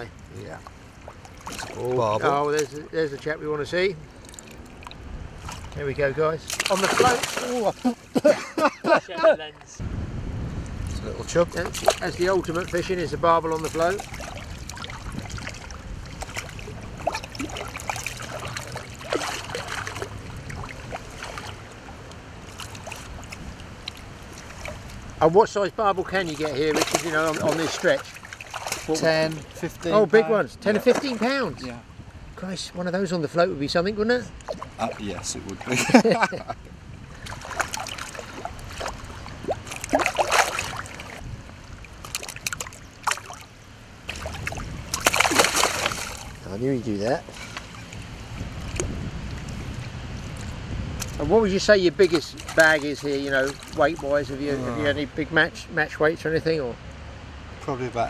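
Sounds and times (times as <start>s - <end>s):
water splashing and gurgling: 0.0s - 8.5s, 11.0s - 32.2s, 34.3s - 55.2s
river flowing: 0.0s - 9.7s, 11.7s - 33.2s, 34.2s - 58.0s.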